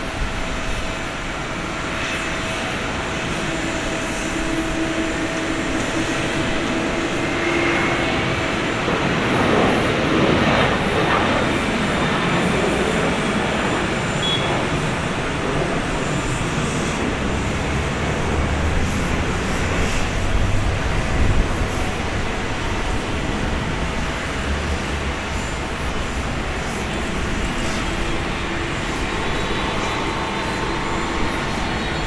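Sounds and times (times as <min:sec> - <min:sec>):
jet engine roar at takeoff: 0:00.0 - 0:32.0
jet engine whine: 0:00.0 - 0:32.0.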